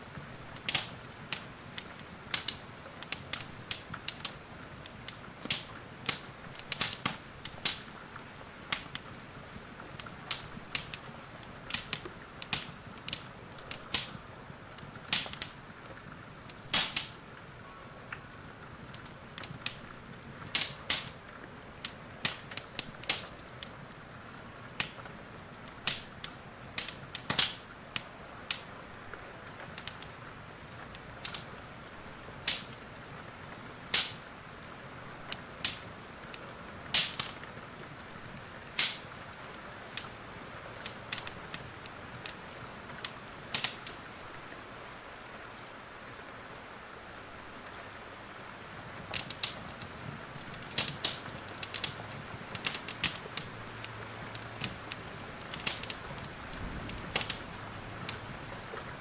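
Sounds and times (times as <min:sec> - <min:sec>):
rain hissing: 0:00.0 - 0:59.0
wood fire crackling and popping: 0:00.1 - 0:44.5, 0:48.8 - 0:59.0.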